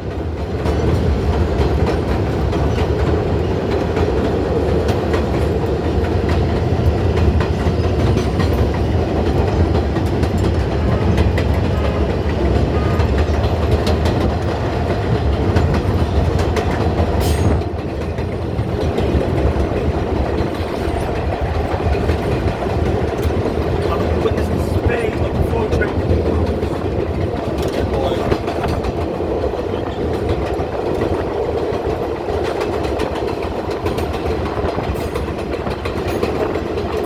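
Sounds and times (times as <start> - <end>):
subway train rumbling: 0.0 - 37.0
wheels clicking over rail joints: 0.0 - 37.0.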